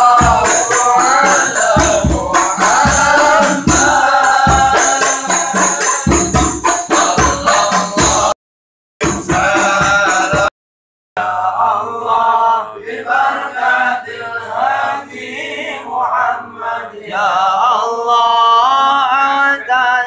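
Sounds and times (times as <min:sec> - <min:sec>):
men chanting in unison: 0:00.0 - 0:08.4, 0:09.0 - 0:10.5, 0:11.2 - 0:20.0.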